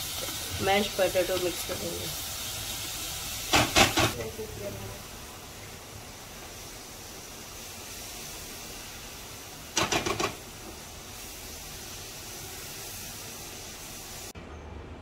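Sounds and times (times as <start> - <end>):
filling sizzling in a wok: 0.0 - 14.4.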